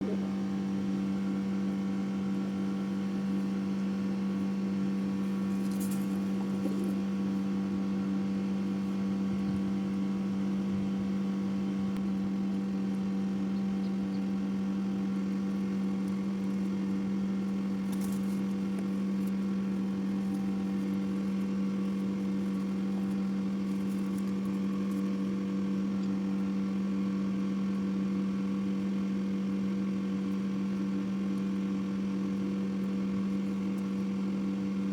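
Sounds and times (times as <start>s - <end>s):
steady machine hum: 0.0s - 34.9s.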